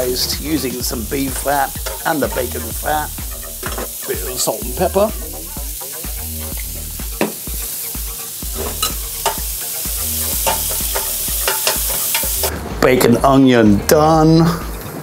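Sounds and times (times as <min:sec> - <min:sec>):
bacon and onions sizzling in a pan: 0:00.0 - 0:12.8
utensil stirring and scraping a pan: 0:00.2 - 0:12.6.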